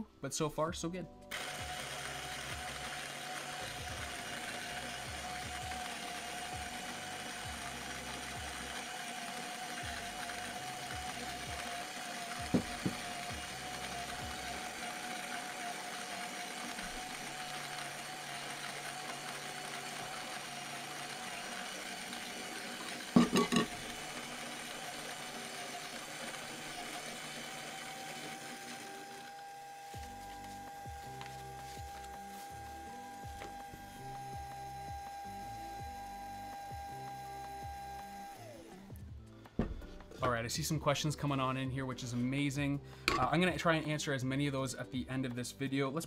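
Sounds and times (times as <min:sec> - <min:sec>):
coffee grinder running with whine: 0:01.3 - 0:39.4.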